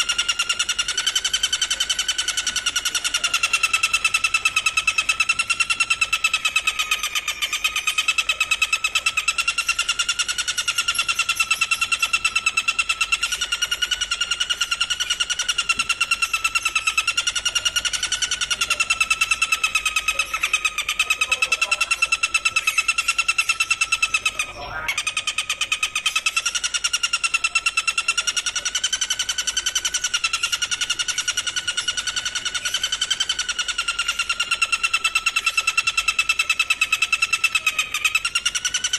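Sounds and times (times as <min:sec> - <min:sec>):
rapid steady trill: 0:00.0 - 0:38.9.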